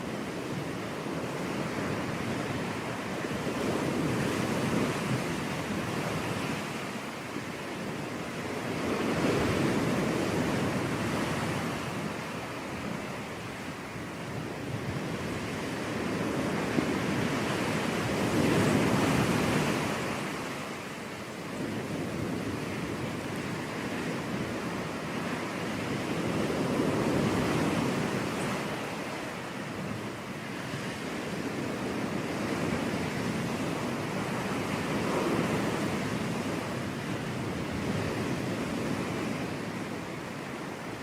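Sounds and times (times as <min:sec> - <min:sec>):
sea surf on beach: 0:00.0 - 0:41.0.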